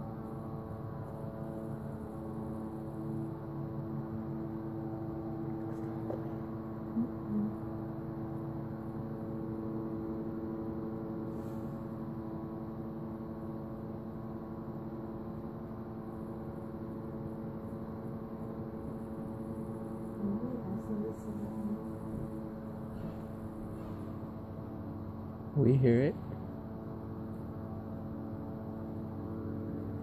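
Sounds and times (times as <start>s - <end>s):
humming drone: 0.0s - 30.0s.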